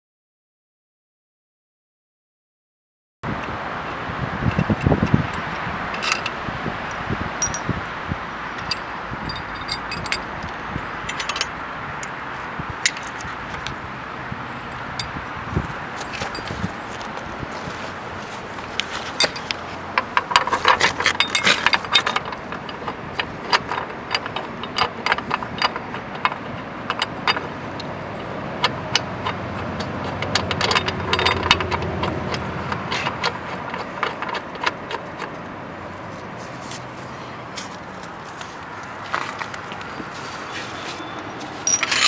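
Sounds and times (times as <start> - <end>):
metal hardware clinking and scraping: 4.5 - 6.4, 7.4 - 7.8, 8.6 - 11.6, 12.4 - 13.8, 14.5 - 42.0.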